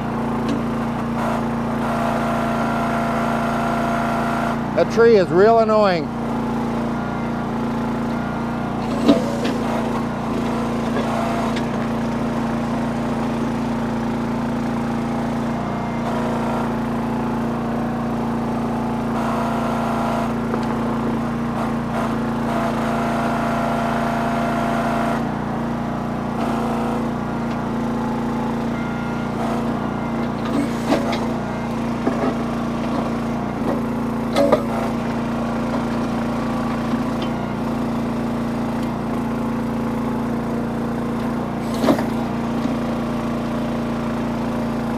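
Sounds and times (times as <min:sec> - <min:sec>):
small engine running under load: 0:00.0 - 0:44.9.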